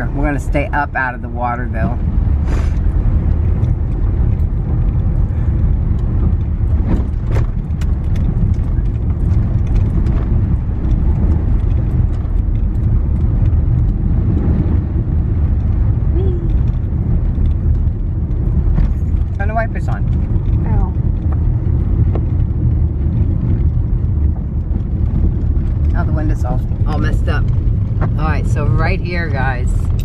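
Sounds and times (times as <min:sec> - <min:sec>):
engine and road noise rumble: 0:00.0 - 0:30.0.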